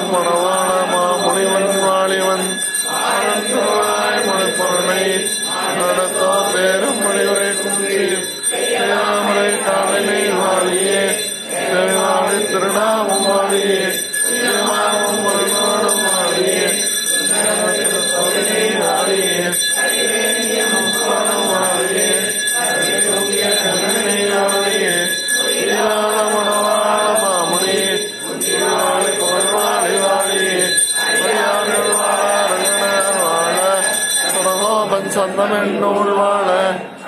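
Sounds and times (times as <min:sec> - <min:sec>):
group chanting in unison: 0:00.0 - 0:37.0.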